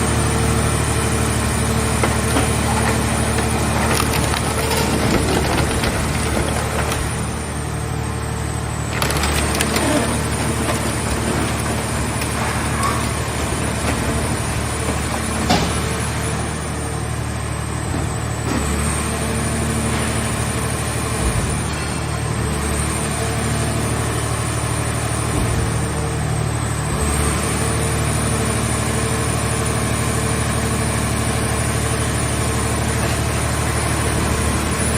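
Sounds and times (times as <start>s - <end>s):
engine and hydraulic drone: 0.0s - 34.9s.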